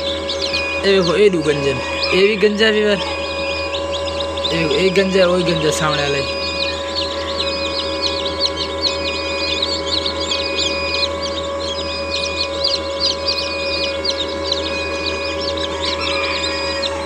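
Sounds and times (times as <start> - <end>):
chicks peeping: 0.0 - 17.0
steady hum: 0.0 - 17.0.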